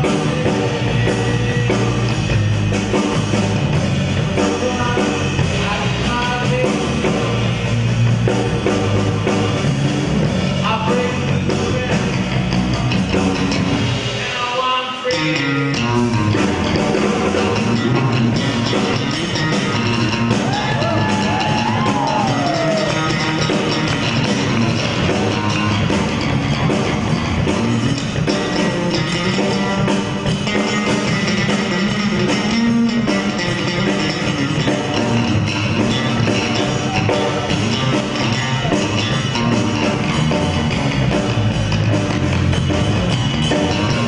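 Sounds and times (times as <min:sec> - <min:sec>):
drum kit playing: 0:00.0 - 0:44.0
electric bass guitar: 0:00.0 - 0:44.0.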